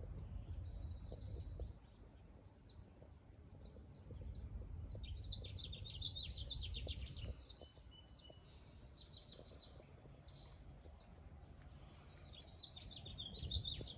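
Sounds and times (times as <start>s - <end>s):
songbird trilled chirps: 0.2s - 13.9s.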